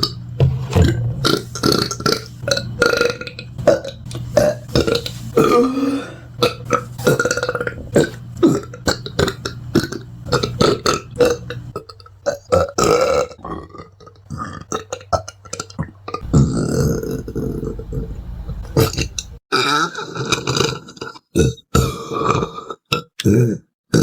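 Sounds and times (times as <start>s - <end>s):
person burping: 1.2s - 18.0s, 18.8s - 24.0s.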